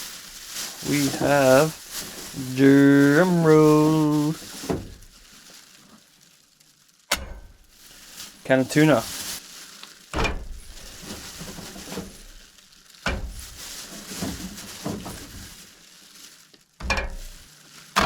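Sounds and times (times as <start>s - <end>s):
food packages knocking and rustling: 0.0s - 6.1s, 7.1s - 18.0s.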